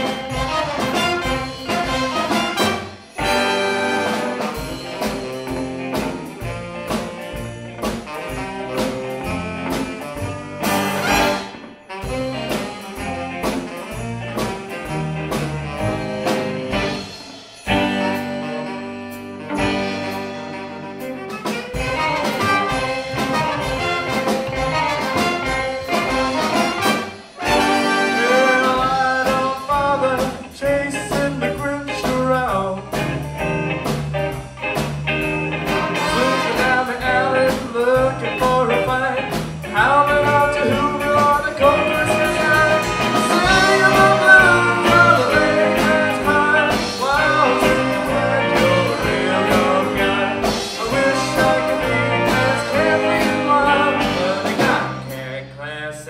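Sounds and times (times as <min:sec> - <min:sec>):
trumpet and saxophone: 0:00.0 - 0:55.3
swing band playing: 0:00.0 - 0:55.6.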